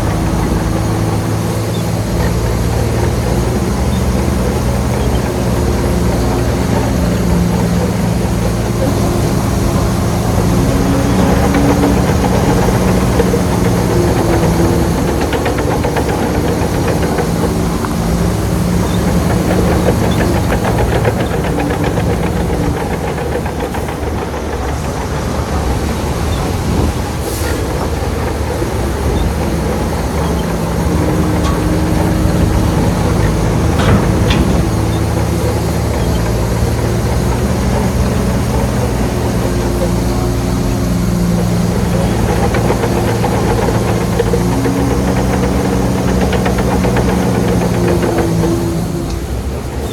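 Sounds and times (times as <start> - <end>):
diesel engine running: 0.0 - 49.9
metallic rattle and clatter: 0.0 - 49.9.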